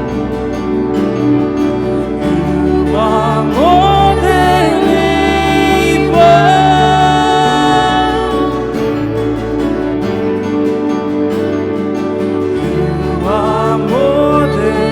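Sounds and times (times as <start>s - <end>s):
sliding lead melody: 0.0s - 14.9s
worship band music: 0.0s - 14.9s.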